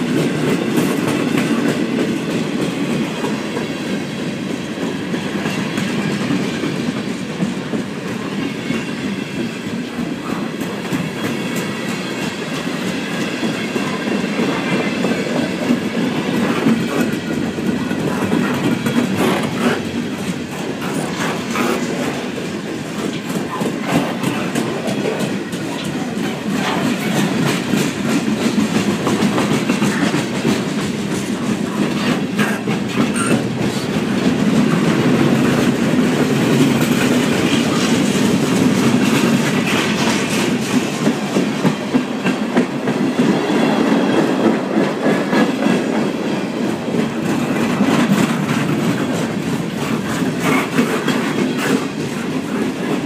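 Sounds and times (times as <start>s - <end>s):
train wheels rumbling on rail: 0.0s - 53.0s
wheels clicking over rail joints: 9.4s - 53.0s.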